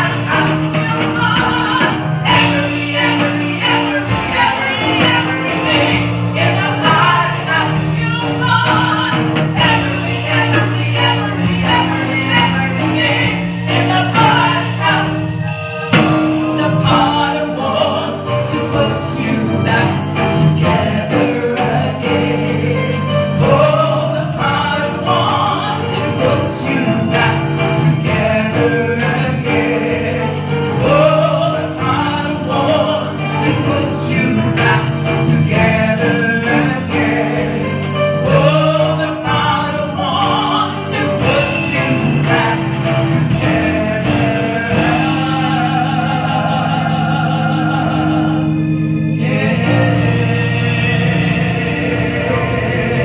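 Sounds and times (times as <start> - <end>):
instrumental backing: 0.0 - 53.0
women singing gospel: 0.0 - 53.0.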